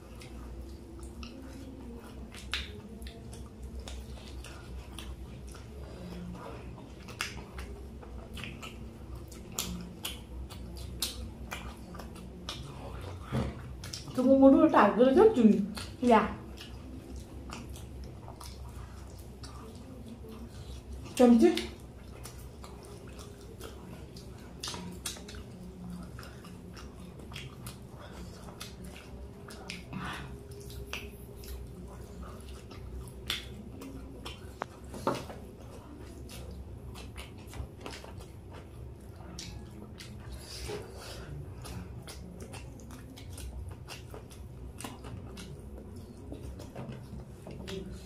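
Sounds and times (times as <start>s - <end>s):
chewing with mouth clicks: 0.0s - 48.0s.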